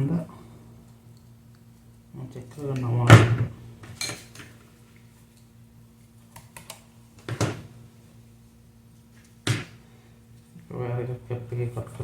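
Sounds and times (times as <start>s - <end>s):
faint steady low hum: 0.0s - 12.0s.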